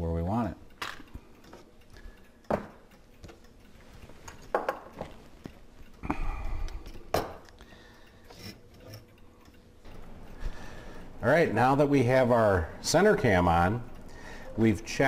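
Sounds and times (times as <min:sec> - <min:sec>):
metal clock parts clinking: 0:00.0 - 0:15.0.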